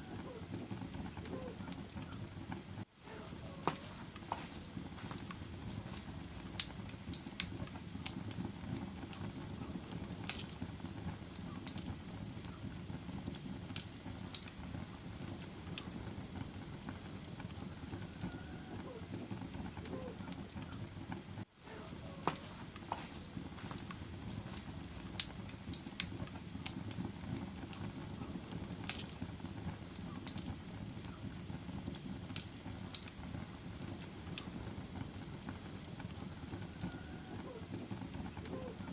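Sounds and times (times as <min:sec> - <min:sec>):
fire burning with crackles: 0:00.0 - 0:38.9.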